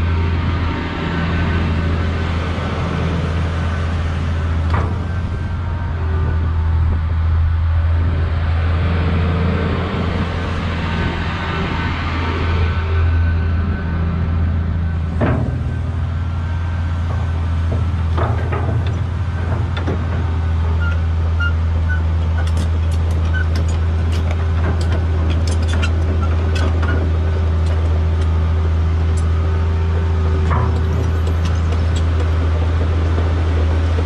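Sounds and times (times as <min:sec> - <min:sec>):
excavator diesel engine humming: 0:00.0 - 0:34.0.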